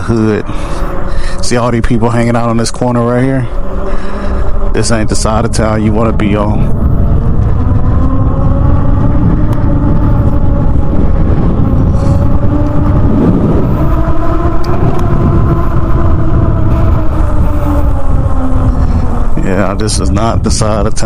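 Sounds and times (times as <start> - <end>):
electric motor droning tone: 0.0 - 21.0
wind rushing over microphone: 0.0 - 21.0.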